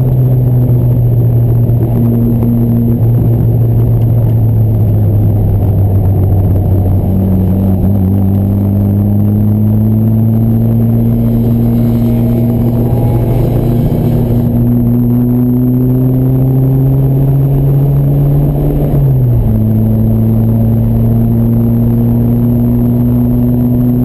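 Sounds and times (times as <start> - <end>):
car engine pulling steadily: 0.0 - 24.0
low rumble of road noise: 0.0 - 24.0.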